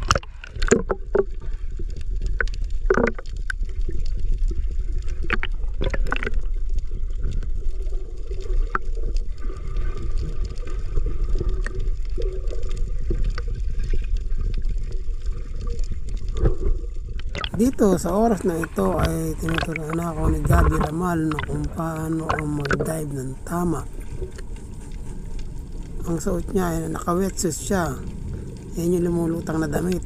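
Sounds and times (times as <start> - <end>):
underwater rumble of moving water: 0.0 - 30.0.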